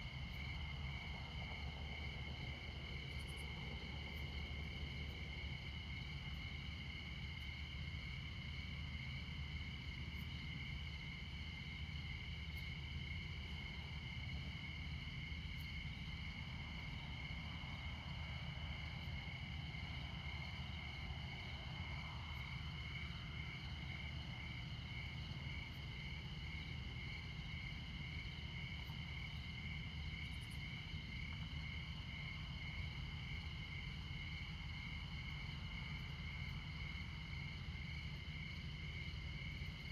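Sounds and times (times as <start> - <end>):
cricket chirping in fast pulse: 0.0 - 39.9
cricket high continuous trill: 0.0 - 39.9.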